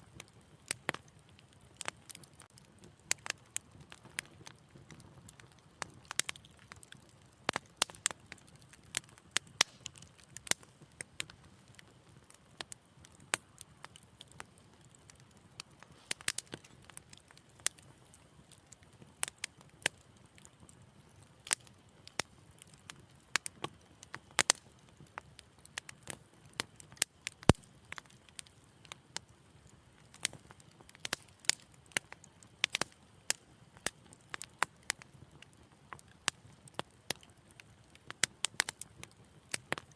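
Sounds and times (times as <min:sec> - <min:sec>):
low rumble of fire: 0:00.0 - 0:39.9
wood fire popping and snapping: 0:00.0 - 0:39.9.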